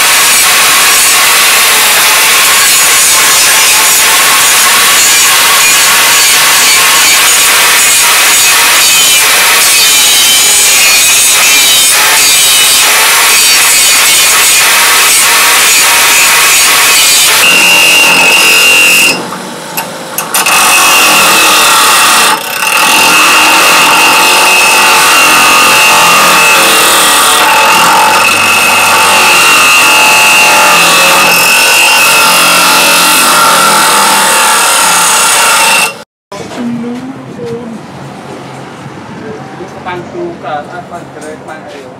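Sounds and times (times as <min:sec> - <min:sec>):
angle grinder sanding steel: 0:00.0 - 0:19.3, 0:20.2 - 0:36.0
bench grinder whining: 0:00.0 - 0:36.0.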